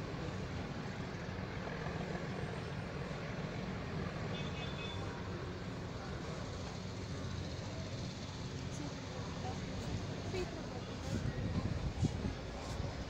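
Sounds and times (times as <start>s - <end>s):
diesel locomotive engine rumbling: 0.0s - 13.0s.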